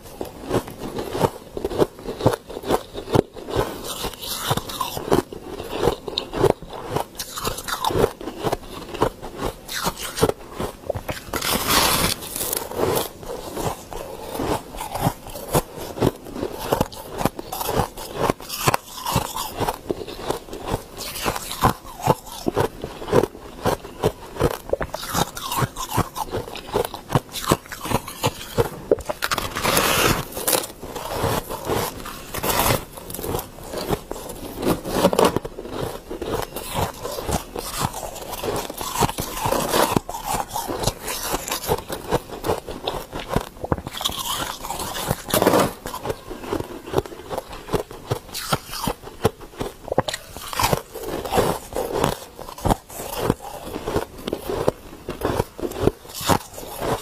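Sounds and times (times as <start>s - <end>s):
crunching ice chunks: 0.5s - 57.0s.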